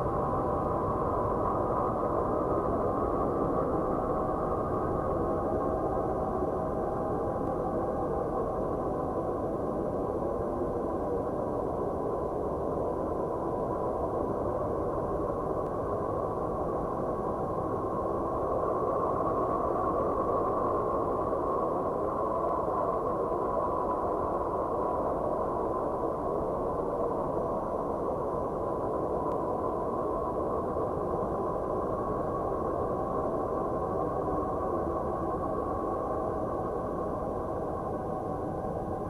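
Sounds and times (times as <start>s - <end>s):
dark droning noise: 0.0s - 39.0s.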